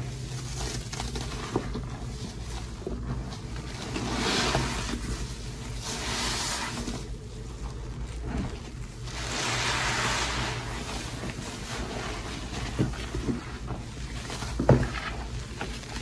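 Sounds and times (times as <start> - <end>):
sponges squishing in soap lather: 0.0 - 16.0.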